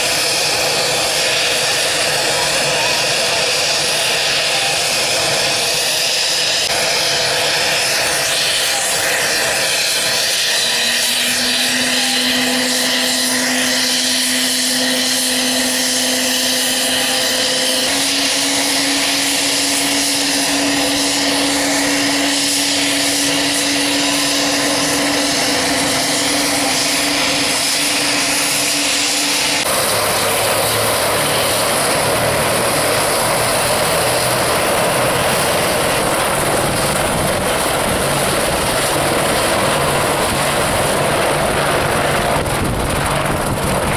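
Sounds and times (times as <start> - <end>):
helicopter rotor and engine noise: 0.0 - 43.9
helicopter turbine whine: 0.0 - 43.9.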